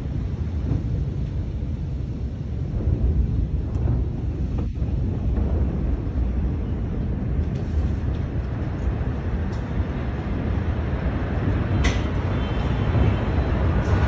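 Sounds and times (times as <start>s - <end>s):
explosion rumble: 0.0s - 12.3s.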